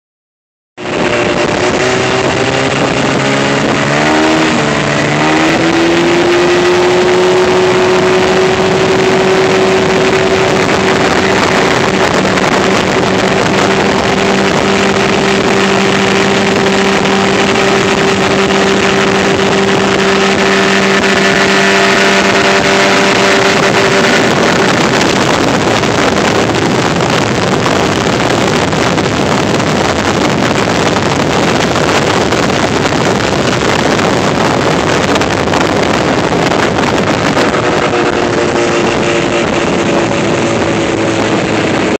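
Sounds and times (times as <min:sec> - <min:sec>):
outboard motor running: 0:00.8 - 0:41.9
water rushing and spray: 0:00.8 - 0:41.9.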